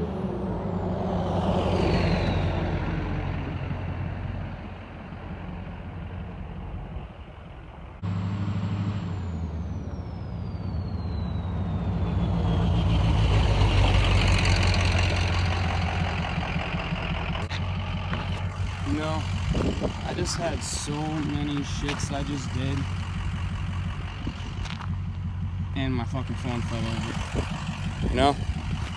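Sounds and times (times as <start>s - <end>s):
diesel engine running: 2.4s - 28.9s.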